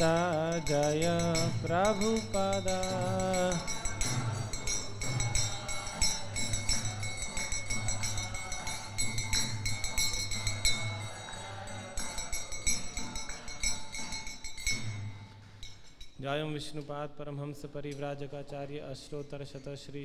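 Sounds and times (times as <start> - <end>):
hand cymbals clinking: 0.0 - 16.8.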